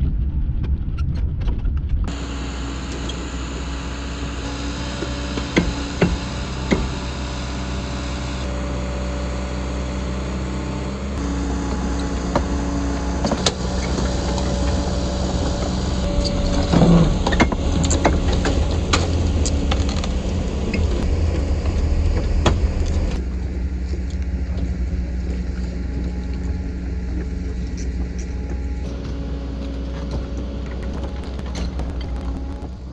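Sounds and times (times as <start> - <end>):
excavator diesel engine running: 2.1 - 32.9.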